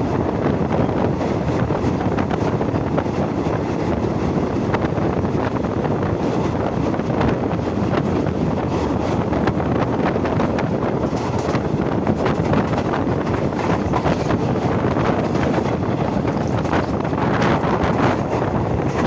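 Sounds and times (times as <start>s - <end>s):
train rumbling and rattling: 0.0s - 19.0s
wind buffeting microphone: 0.0s - 19.0s.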